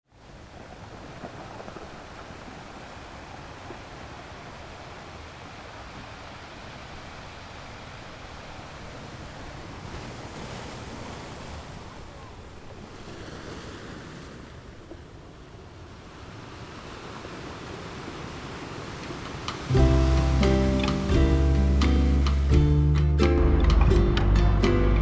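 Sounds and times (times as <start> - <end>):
sea surf washing ashore: 0.0 - 25.0.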